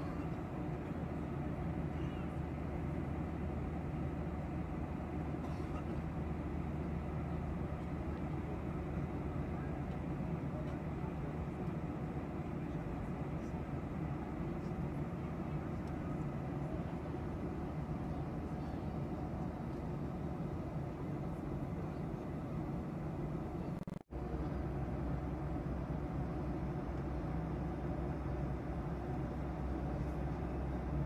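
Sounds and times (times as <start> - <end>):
jet airliner cabin noise: 0.0 - 31.0.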